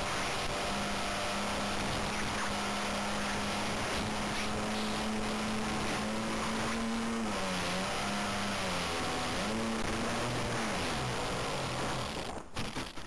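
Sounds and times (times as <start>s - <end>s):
model airplane motor droning: 0.0s - 12.8s.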